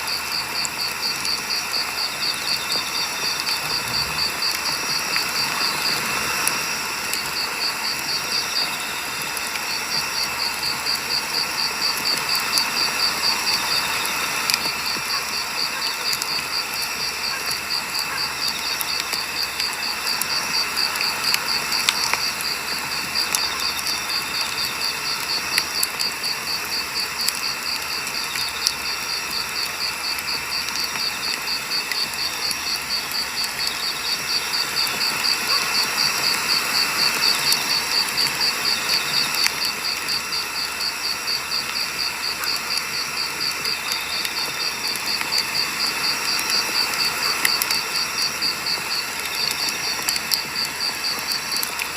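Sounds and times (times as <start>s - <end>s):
insects trilling: 0.0s - 51.9s
wood fire crackling: 0.1s - 51.9s.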